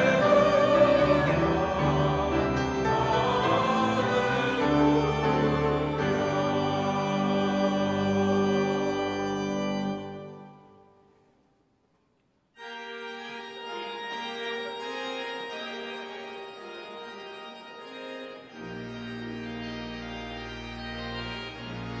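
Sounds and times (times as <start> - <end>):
deep organ pedal notes: 0.0 - 10.7, 12.6 - 22.0
pipe organ chords: 0.0 - 11.0, 12.6 - 22.0.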